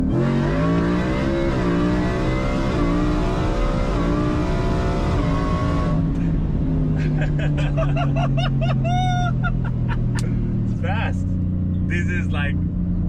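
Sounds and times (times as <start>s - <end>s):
vehicle engine running: 1.6s - 13.0s.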